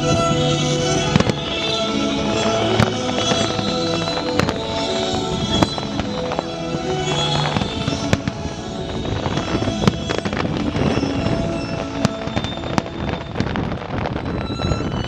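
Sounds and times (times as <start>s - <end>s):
fireworks bangs and crackles: 0.0s - 15.0s
recorded music with held notes: 0.0s - 15.0s.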